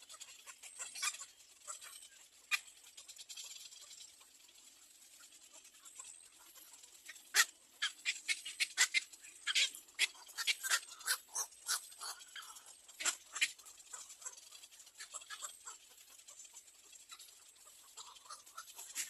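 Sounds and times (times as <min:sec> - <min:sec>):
birds clicking and ticking: 0:00.0 - 0:19.0.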